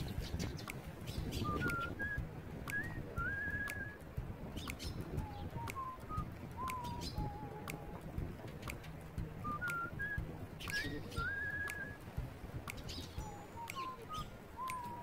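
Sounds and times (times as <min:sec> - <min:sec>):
sparrows chirping: 0:00.0 - 0:15.0
person whistling a tune: 0:01.1 - 0:08.8, 0:09.4 - 0:15.0.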